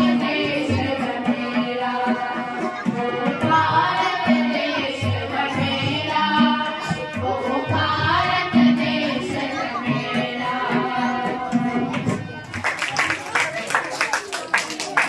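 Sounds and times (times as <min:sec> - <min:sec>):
children singing in unison: 0:00.0 - 0:12.5
tabla: 0:00.0 - 0:15.0.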